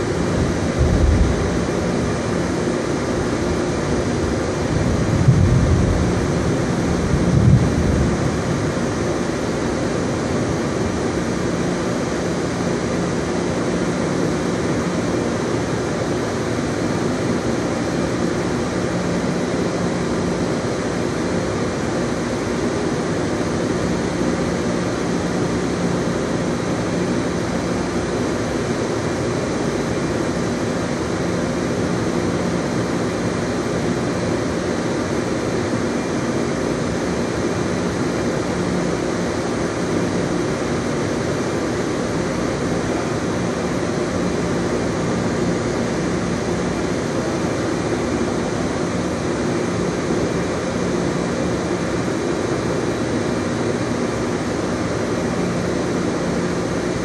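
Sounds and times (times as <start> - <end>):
machinery drone with low hum: 0.0 - 57.0.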